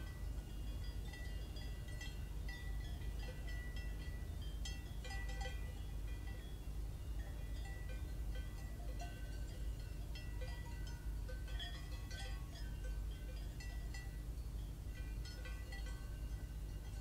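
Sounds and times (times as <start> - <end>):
cowbells clanking: 0.0 - 17.0.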